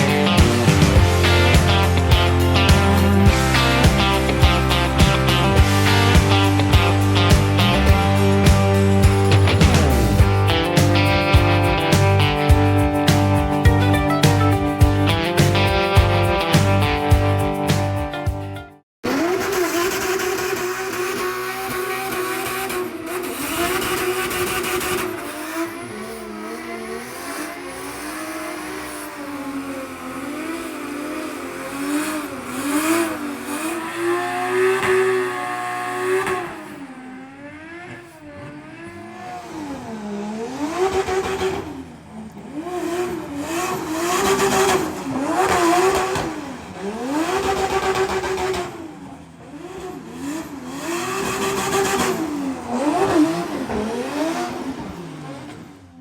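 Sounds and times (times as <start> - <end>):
car engine revving: 0.0 - 18.0, 19.0 - 56.0.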